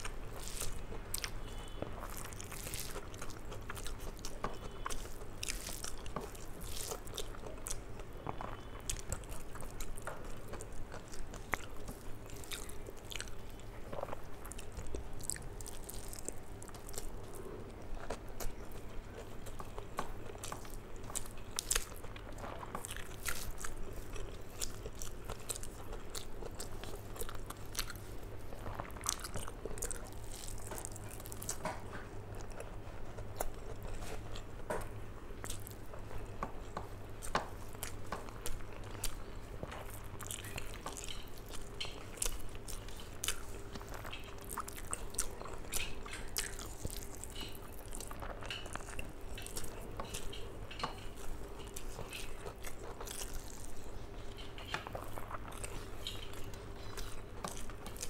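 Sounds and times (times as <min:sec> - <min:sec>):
person chewing rice: 0:00.0 - 0:58.0.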